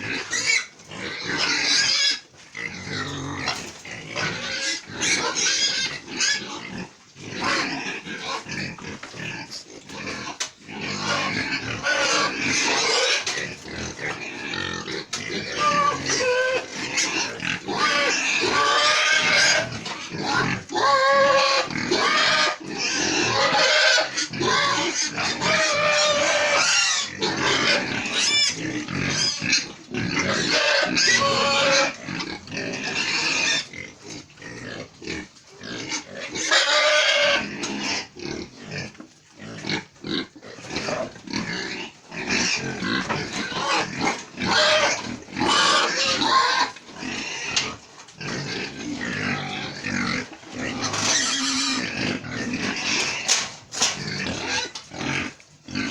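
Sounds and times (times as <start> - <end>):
pigs squealing and grunting: 0.0 - 55.9.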